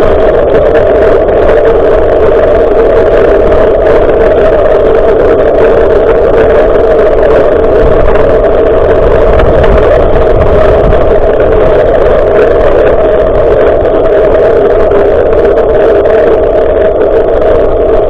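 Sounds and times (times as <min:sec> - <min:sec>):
road vibration rumble: 0:00.0 - 0:18.0
wind rumbling on microphone: 0:00.0 - 0:18.0.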